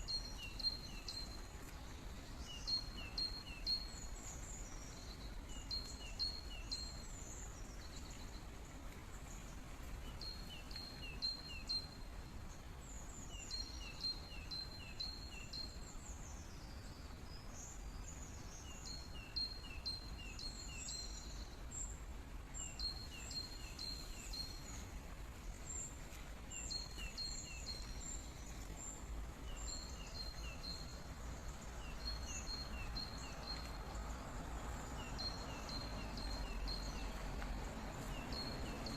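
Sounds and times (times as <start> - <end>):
flowing water hiss: 0.0 - 38.9
small birds chirping: 0.0 - 38.9.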